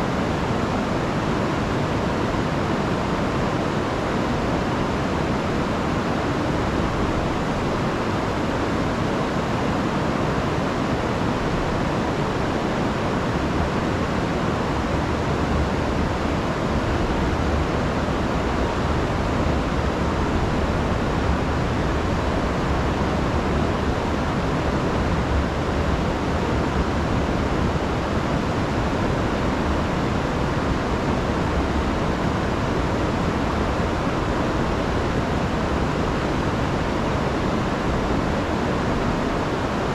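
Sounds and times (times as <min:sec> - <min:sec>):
river rushing over waterfalls: 0:00.0 - 0:39.9.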